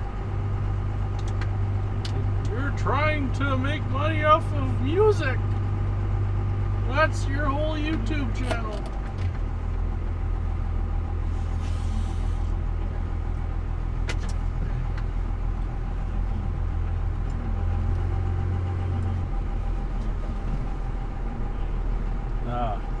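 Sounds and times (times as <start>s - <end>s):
truck engine and road noise: 0.0s - 23.0s.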